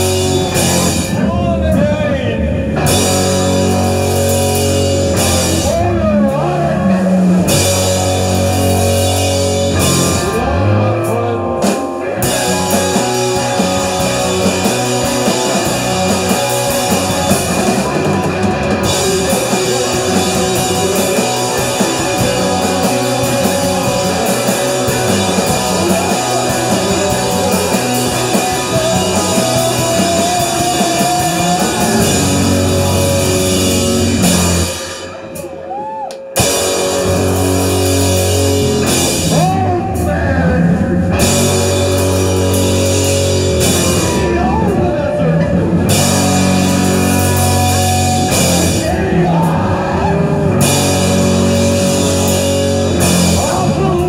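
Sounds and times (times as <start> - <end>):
drums and cymbals: 0.0 - 54.0
live rock band playing: 0.0 - 54.0.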